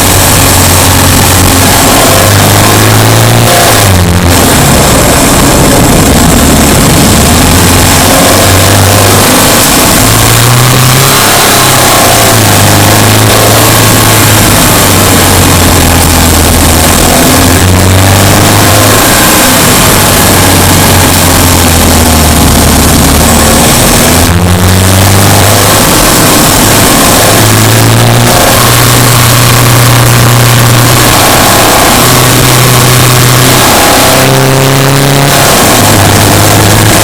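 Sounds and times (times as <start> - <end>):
car engine accelerating: 0.0 - 37.0
tyre and road noise: 0.0 - 37.0.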